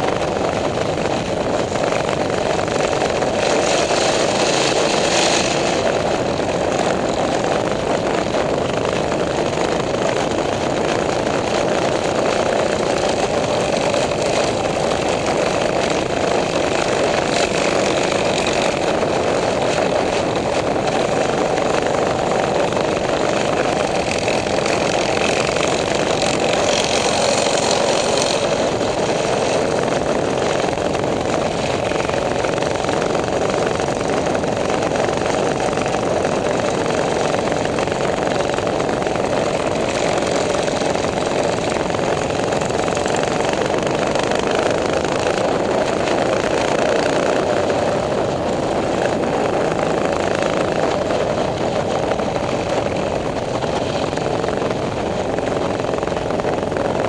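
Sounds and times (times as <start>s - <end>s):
minibike engines running: 0.0s - 57.0s.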